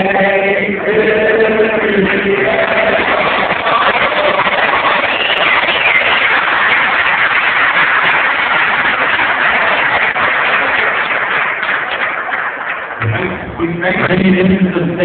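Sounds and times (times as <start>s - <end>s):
audience applauding: 1.8s - 14.1s.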